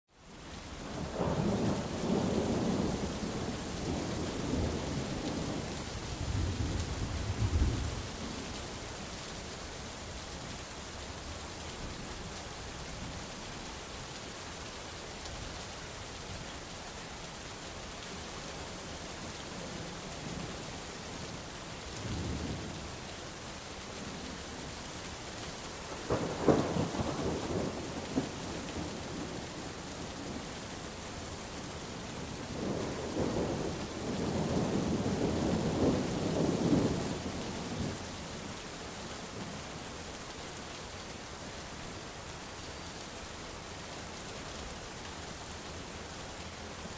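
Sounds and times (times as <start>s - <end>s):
rain on foliage: 0.1s - 46.9s.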